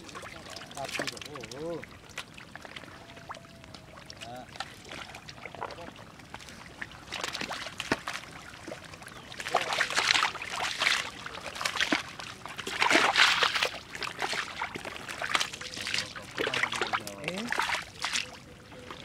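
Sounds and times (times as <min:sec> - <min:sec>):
mud sloshing and squelching: 0:00.0 - 0:19.0.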